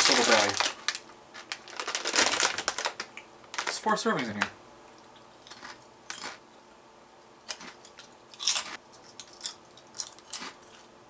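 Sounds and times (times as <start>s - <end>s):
potato chips crunching: 0.0s - 4.4s, 5.4s - 6.4s, 7.5s - 10.9s.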